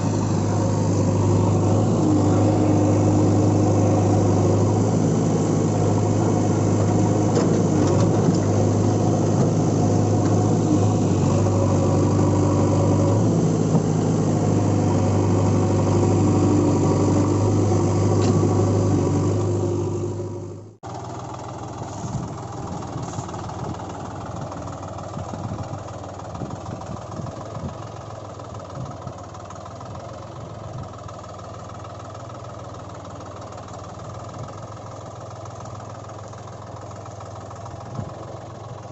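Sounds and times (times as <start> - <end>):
rough uneven engine: 0.0 - 38.9
vehicle engine humming: 0.0 - 38.9.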